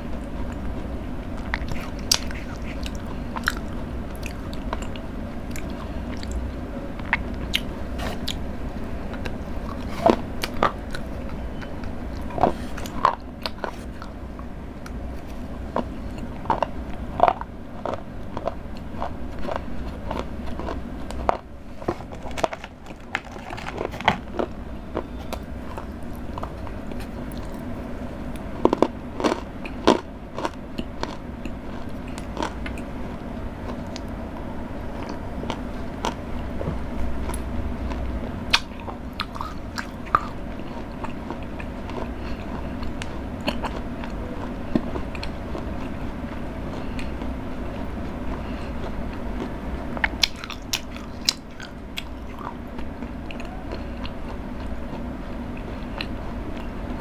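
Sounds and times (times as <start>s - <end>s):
chewing: 0.0s - 8.4s, 9.1s - 34.2s, 37.2s - 57.0s.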